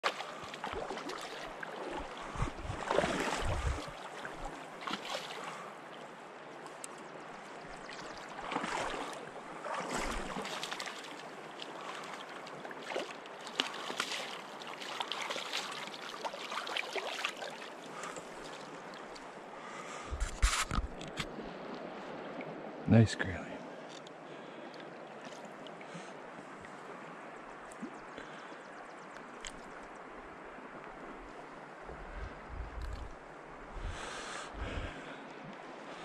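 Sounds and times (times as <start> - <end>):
river current washing: 0.0 - 36.0.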